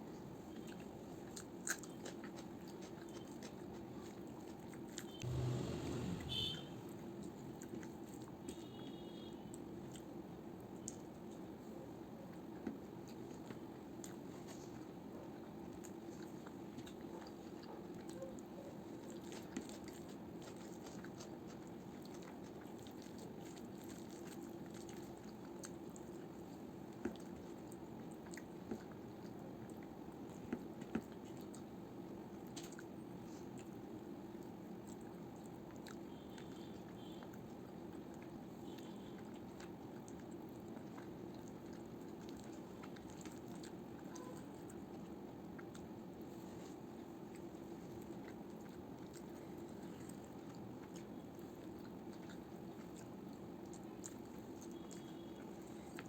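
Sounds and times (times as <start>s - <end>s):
person chewing food: 0.4s - 6.2s, 9.5s - 10.2s, 12.4s - 56.0s.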